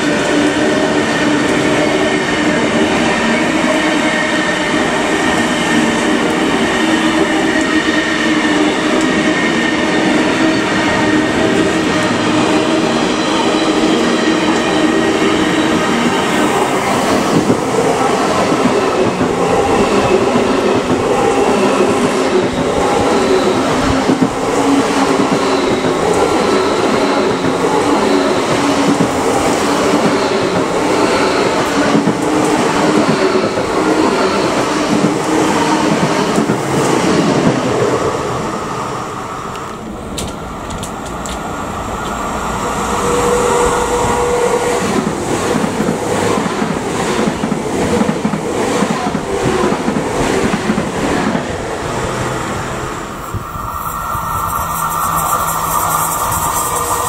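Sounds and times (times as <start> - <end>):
train passing on rails: 0.0 - 57.0.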